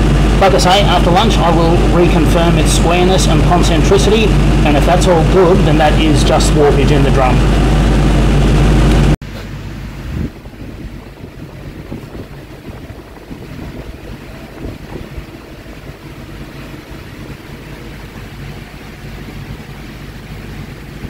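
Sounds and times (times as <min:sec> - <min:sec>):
loud sound cutting off: 0:00.0 - 0:21.0
metal lathe rumbling: 0:00.0 - 0:21.0.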